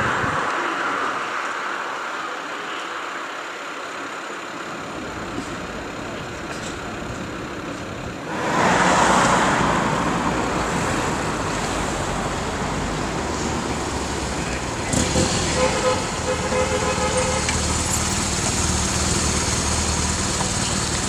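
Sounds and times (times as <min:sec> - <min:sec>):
vehicles driving past: 0:00.0 - 0:21.0.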